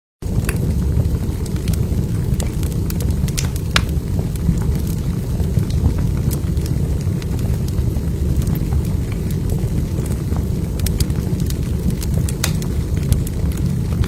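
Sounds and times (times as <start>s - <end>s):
fire crackling and popping: 0.2s - 14.0s
fire flames rumbling: 0.2s - 14.0s.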